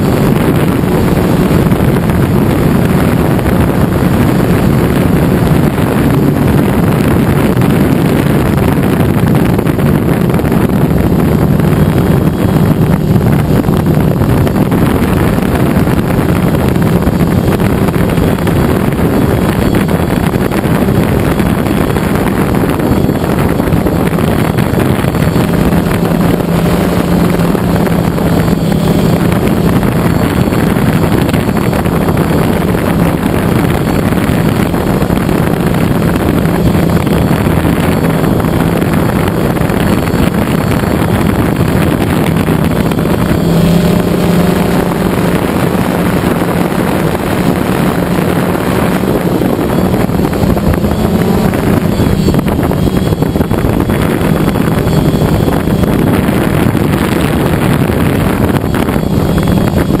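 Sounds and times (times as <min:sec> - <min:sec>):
drone propellers buzzing: 0:00.0 - 1:00.0
wind rushing over microphone: 0:00.0 - 1:00.0.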